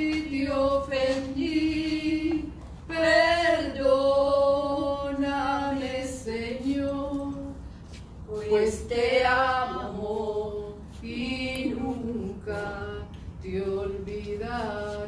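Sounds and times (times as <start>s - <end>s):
woman singing a hymn: 0.0s - 15.0s.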